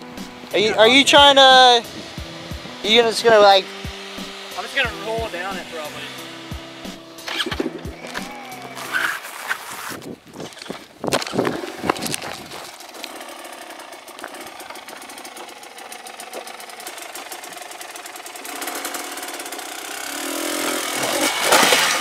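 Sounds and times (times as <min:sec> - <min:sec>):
two-stroke dirt bike engine idling: 0:00.0 - 0:09.1, 0:10.5 - 0:22.0.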